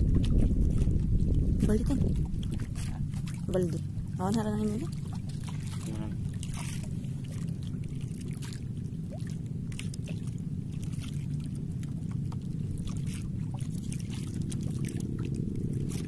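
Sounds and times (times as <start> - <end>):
boat engine idling: 1.6 - 16.0.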